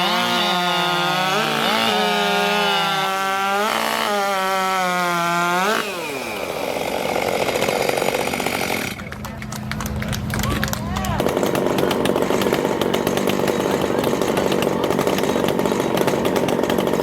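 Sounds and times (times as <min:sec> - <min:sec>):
chainsaw at full throttle: 0:00.0 - 0:09.2, 0:11.0 - 0:17.0.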